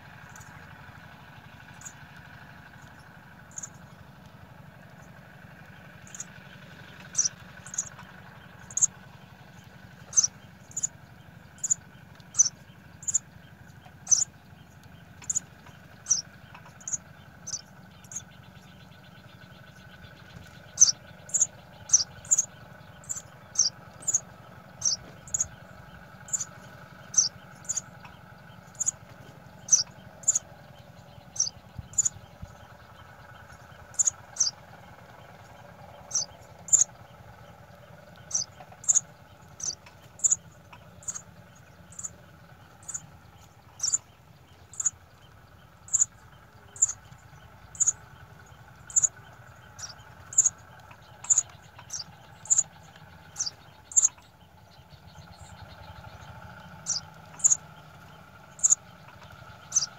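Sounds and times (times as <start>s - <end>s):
nestlings begging chirps: 0.0s - 59.9s
steady low hum: 0.0s - 59.9s.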